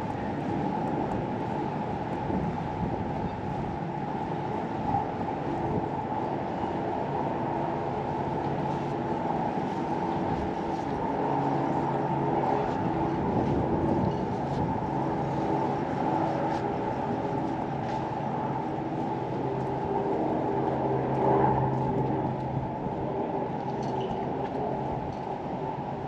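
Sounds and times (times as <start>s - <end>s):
engine-like rumble with low hum: 0.0s - 26.0s.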